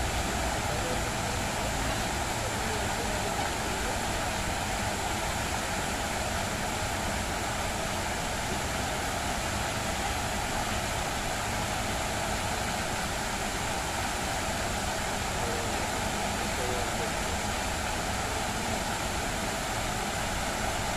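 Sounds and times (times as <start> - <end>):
fountain water splashing into pool: 0.0 - 20.9.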